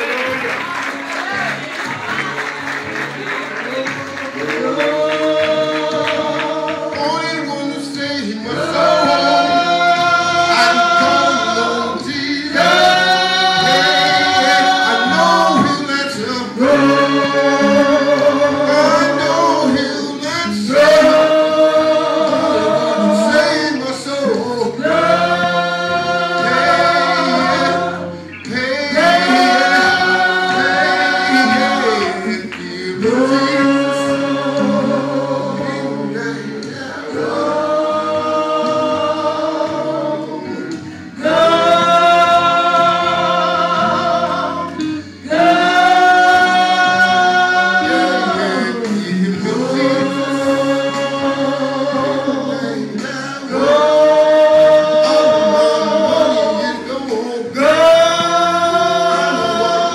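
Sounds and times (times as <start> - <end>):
gospel vocal group singing in harmony: 0.0 - 59.9.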